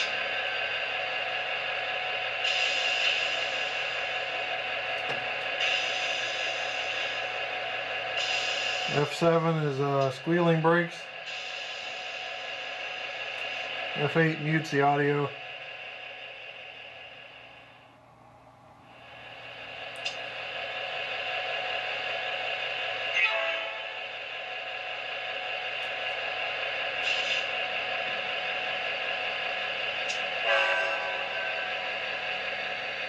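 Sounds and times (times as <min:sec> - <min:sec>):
diesel locomotive engine running: 0:00.0 - 0:33.0.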